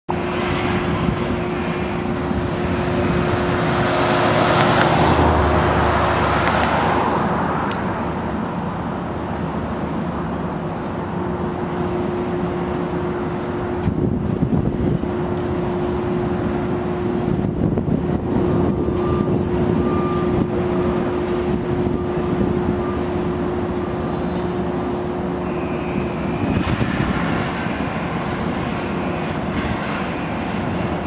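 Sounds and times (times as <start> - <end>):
passing traffic rushing: 0.1 - 31.0
vehicle road and tyre noise: 0.1 - 31.0.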